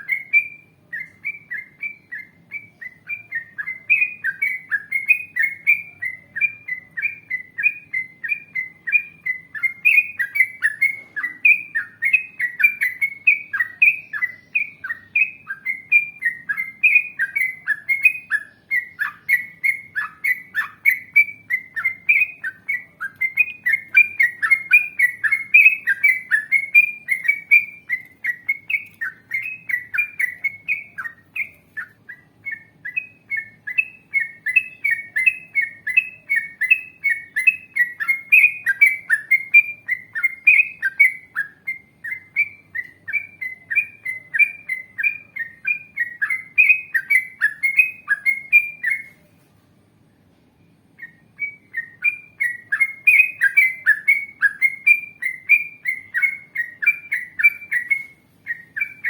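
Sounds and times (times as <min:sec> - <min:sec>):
bird singing chirped notes: 0:00.0 - 0:49.3, 0:50.6 - 0:59.0.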